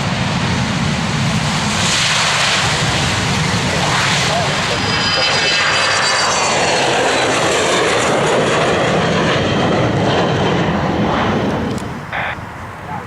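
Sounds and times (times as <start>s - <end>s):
airliner engines whining: 0.0s - 13.0s.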